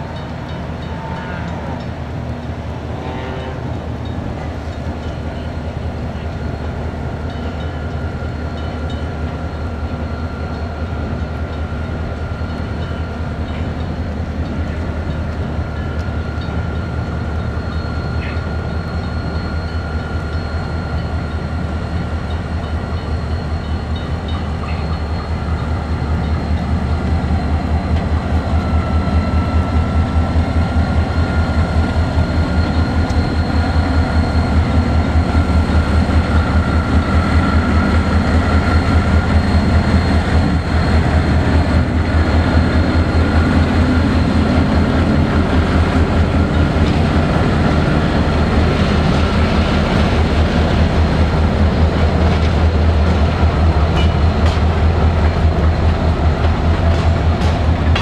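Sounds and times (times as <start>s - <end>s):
diesel locomotive engine throb: 0.0s - 58.0s
freight cars rumbling on rails: 0.0s - 58.0s.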